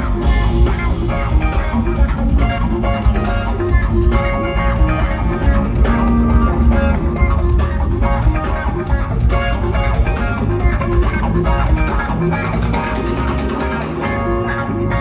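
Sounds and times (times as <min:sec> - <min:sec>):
bass guitar: 0:00.0 - 0:15.0
drum kit: 0:00.0 - 0:15.0.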